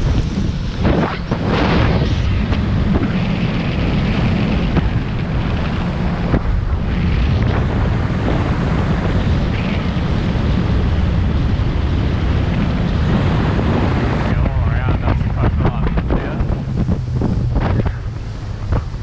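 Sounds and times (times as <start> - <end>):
outboard motor drone: 0.0 - 19.0
water rushing along hull: 0.0 - 19.0
wind buffeting microphone: 0.0 - 19.0.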